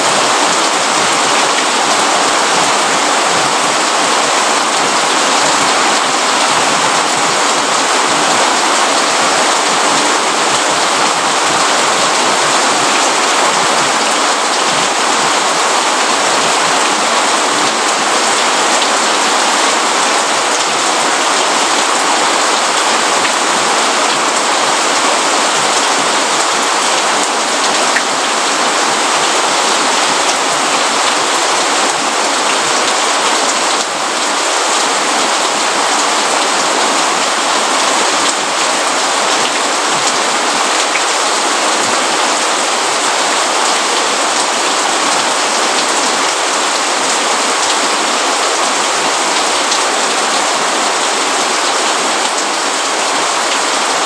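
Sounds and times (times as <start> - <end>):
rain falling on a hard surface: 0.0 - 54.0.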